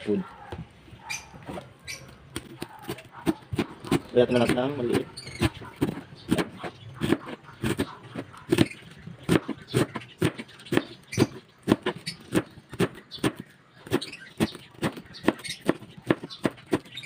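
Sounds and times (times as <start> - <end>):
knife chopping on cutting board: 2.6 - 16.9.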